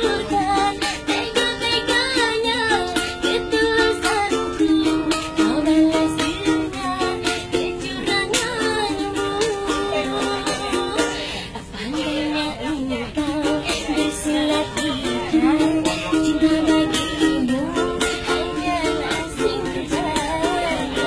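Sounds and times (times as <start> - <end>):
small lute strummed: 0.0 - 21.0
woman singing: 0.0 - 21.0.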